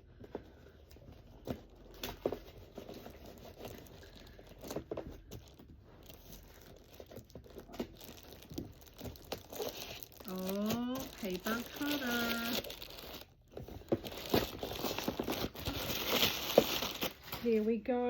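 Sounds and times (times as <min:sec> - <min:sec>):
packaging tearing and rustling: 0:00.6 - 0:17.6.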